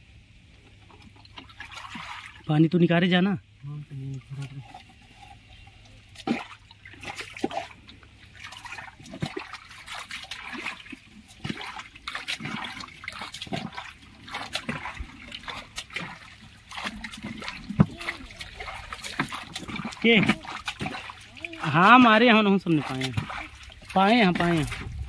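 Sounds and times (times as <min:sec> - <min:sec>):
water splashing and trickling: 0:00.3 - 0:25.0.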